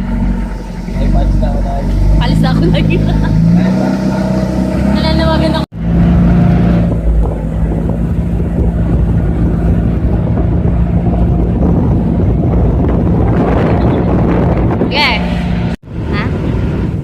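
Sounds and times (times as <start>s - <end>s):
boat engine droning: 0.0s - 17.0s
wind buffeting microphone: 0.0s - 17.0s.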